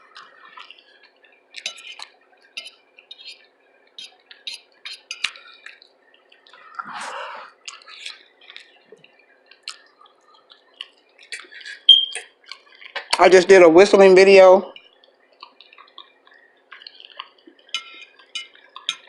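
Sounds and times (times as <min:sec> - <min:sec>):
person chewing food: 0:00.0 - 0:13.1, 0:14.8 - 0:19.0.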